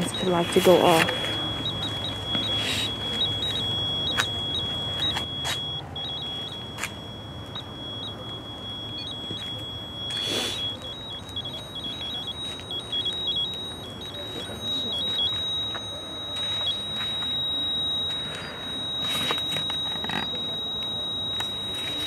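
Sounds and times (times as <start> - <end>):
high-pitched electronic alarm tone: 0.0 - 22.0.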